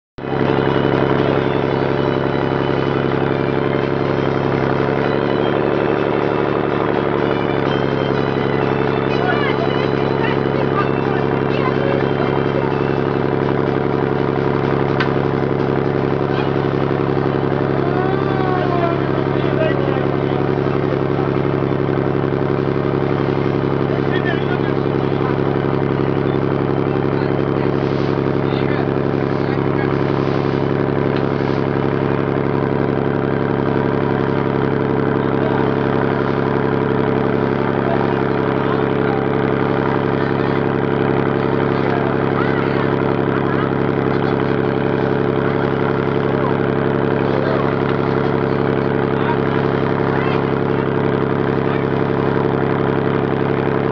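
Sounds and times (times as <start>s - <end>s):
motor boat engine running: 0.2s - 53.9s.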